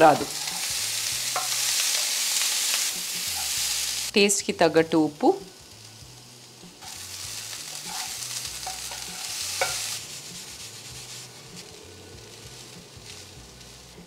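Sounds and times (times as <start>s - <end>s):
grain sizzling in a frying pan: 0.0s - 14.0s.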